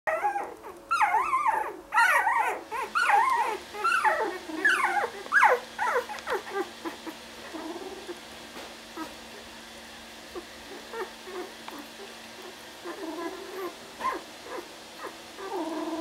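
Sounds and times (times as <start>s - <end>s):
puppies squealing and whimpering: 0.1s - 8.2s, 9.0s - 9.2s, 10.3s - 16.0s.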